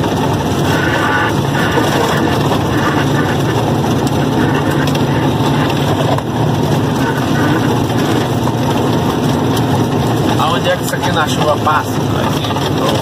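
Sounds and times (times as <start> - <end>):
diesel truck engine running: 0.0 - 13.0
road noise: 0.0 - 13.0.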